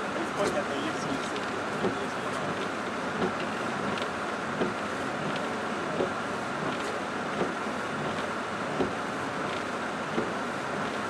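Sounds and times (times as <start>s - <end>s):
rain on car: 0.0s - 11.0s
windshield wipers thumping: 1.3s - 10.9s.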